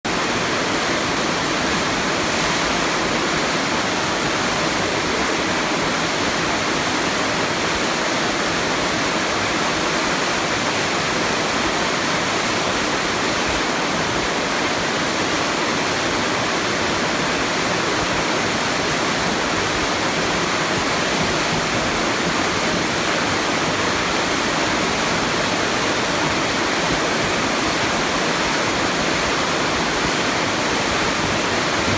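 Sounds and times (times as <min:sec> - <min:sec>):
water rushing down a channel: 0:00.1 - 0:31.9.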